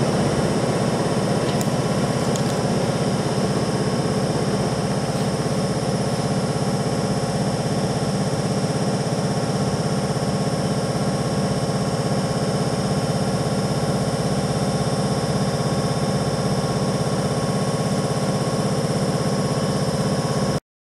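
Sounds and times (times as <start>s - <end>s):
machine running with rapid pulse: 0.0s - 20.6s.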